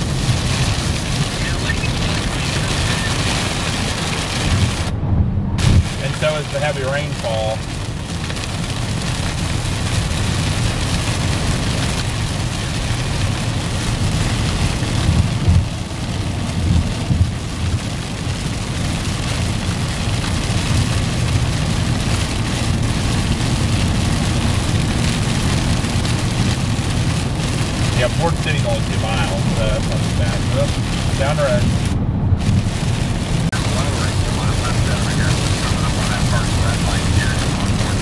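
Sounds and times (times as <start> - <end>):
heavy rain on a car: 0.0 - 5.0, 5.6 - 38.0
low bumps: 0.0 - 38.0
tyre and road noise: 0.0 - 38.0.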